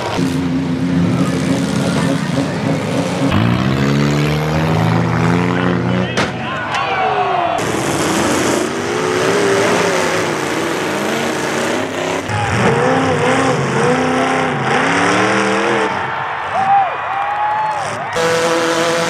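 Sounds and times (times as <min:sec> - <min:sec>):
car engines revving hard: 0:00.0 - 0:06.1, 0:07.6 - 0:16.6, 0:17.6 - 0:19.0.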